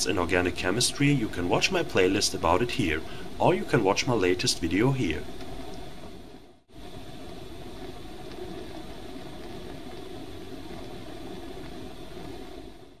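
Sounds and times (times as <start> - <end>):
bunsen burner flame rushing: 0.0 - 13.0.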